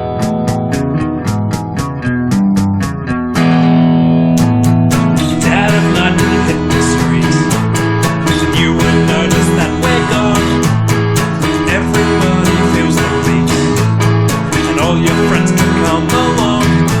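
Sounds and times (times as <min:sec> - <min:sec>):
guitar music with beat: 0:00.0 - 0:17.0.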